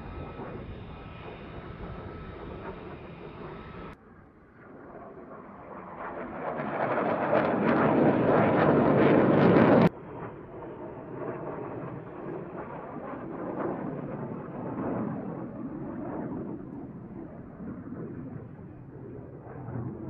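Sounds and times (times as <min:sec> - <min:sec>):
jet aircraft passing: 0:00.0 - 0:20.0.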